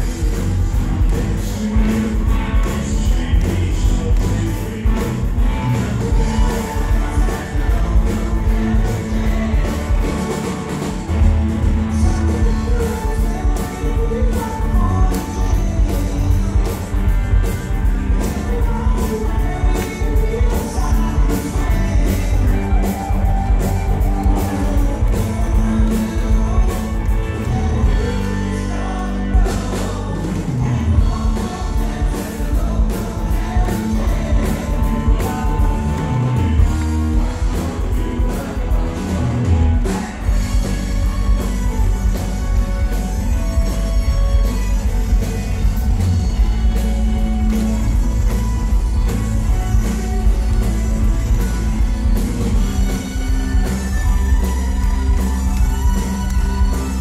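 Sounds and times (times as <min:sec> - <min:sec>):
drum kit: 0:00.0 - 0:57.0
live rock band: 0:00.0 - 0:57.0
person singing: 0:00.0 - 0:57.0.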